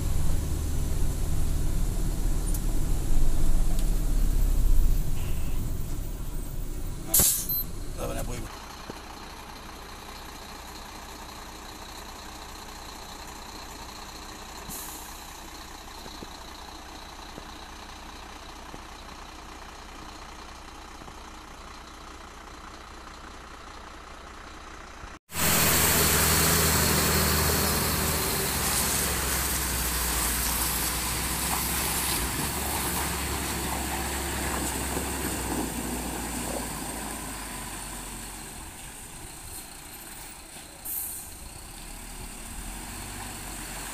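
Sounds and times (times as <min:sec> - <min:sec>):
dump truck diesel engine: 0:00.0 - 0:43.9
vehicle engine hum: 0:00.0 - 0:43.9.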